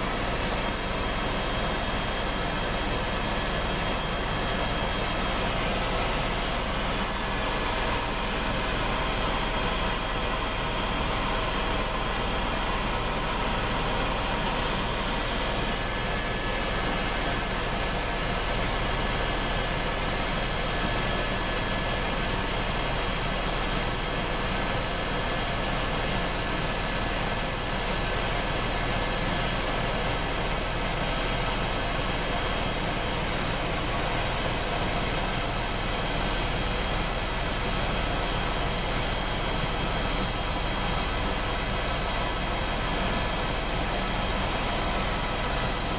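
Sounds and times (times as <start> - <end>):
helicopter engine and rotor noise: 0.0 - 45.9.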